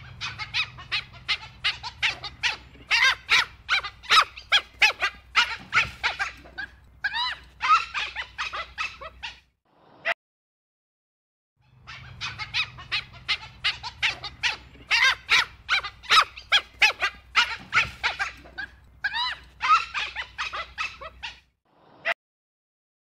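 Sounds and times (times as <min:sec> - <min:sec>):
low recording hum: 0:00.0 - 0:09.4, 0:11.6 - 0:21.4
wild dog high calls: 0:00.0 - 0:09.5, 0:11.6 - 0:21.5.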